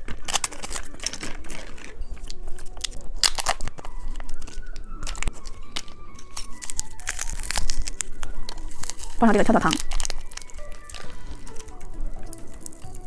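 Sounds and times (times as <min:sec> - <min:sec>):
candy crackling and crunching: 0:00.0 - 0:13.0.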